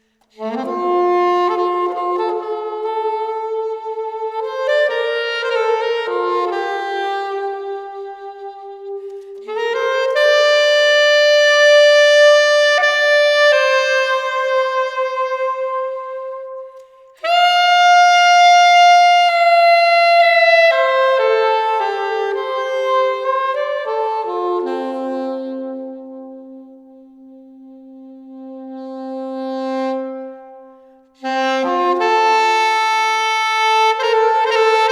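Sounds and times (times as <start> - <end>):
solo saxophone: 0.0 - 34.9.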